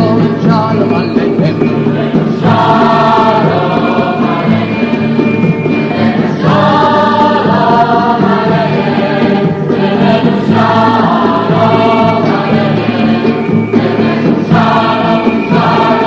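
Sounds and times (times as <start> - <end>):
low accompaniment: 0.0 - 16.0
choir singing long notes: 1.6 - 16.0.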